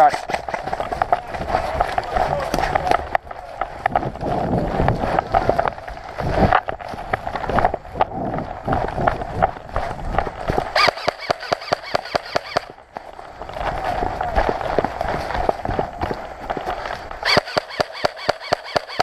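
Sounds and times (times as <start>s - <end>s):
running footsteps: 0.0s - 19.0s.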